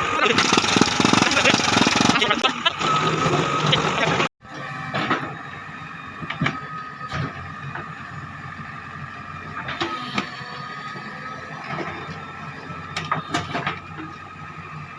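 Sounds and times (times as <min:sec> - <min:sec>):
backhoe engine and hydraulics whining: 0:00.0 - 0:14.9.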